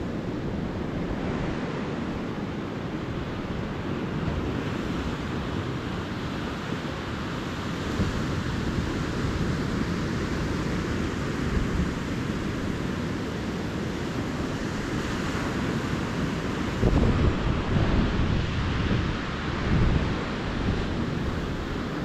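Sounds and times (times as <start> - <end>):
ocean surf washing ashore: 0.0 - 22.0
wind buffeting microphone: 0.0 - 22.0.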